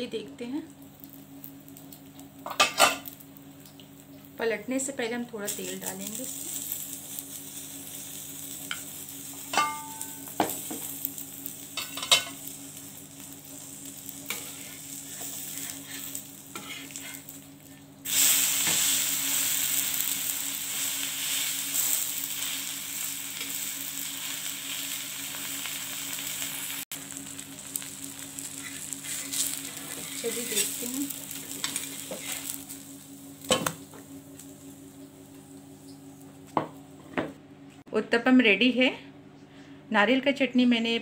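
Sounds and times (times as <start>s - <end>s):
pancake sizzling in oil: 0.8s - 36.4s.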